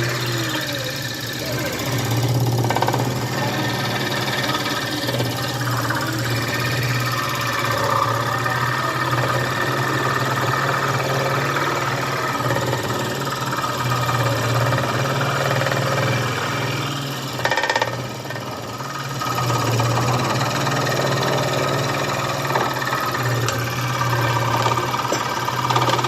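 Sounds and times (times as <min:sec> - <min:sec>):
reciprocating saw cutting wood: 0:00.0 - 0:26.0.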